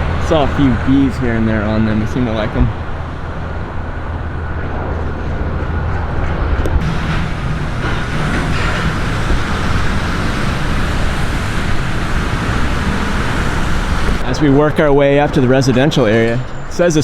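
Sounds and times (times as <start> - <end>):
rushing of passing traffic: 0.0 - 17.0
vehicle rumble: 0.0 - 17.0.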